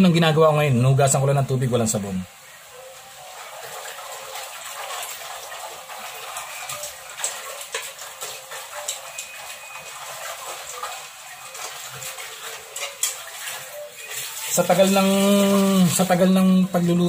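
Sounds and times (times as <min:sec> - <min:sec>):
tap water running into metal pot: 0:02.7 - 0:17.0
pot scrubbing: 0:03.2 - 0:17.0.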